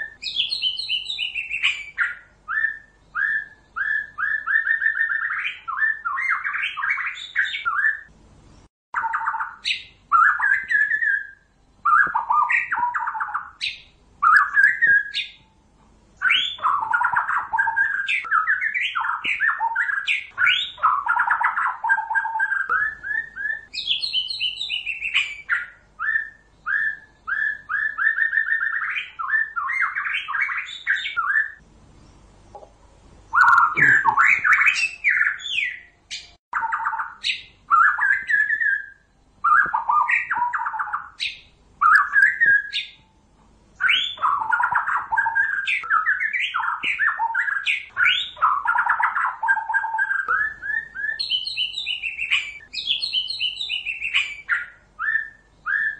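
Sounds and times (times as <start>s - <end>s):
bird singing whistled notes: 0.0s - 8.1s, 9.0s - 15.6s, 16.2s - 31.6s, 33.3s - 43.2s, 43.8s - 55.9s.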